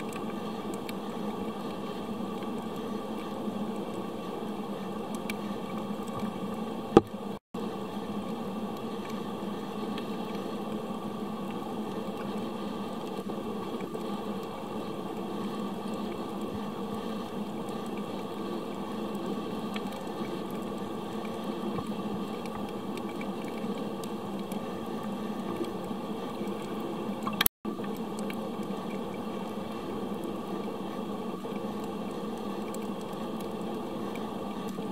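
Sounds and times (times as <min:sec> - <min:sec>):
faint ticks: 0:00.0 - 0:07.1, 0:09.9 - 0:34.9
muffled underwater rushing hiss: 0:00.0 - 0:34.9.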